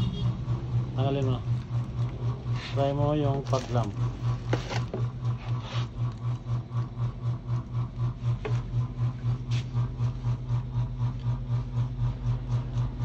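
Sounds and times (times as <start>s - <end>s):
throbbing motor hum: 0.0s - 13.0s.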